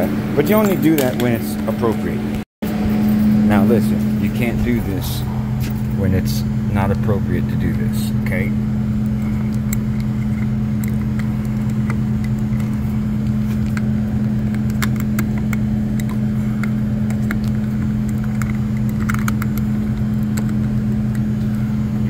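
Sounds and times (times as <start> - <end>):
refrigeration equipment humming: 0.0 - 22.0.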